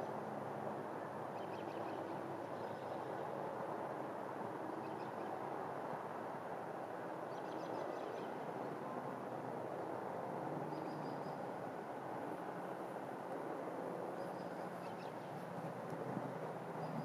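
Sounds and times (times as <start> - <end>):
distant car traffic hum: 0.0 - 17.0.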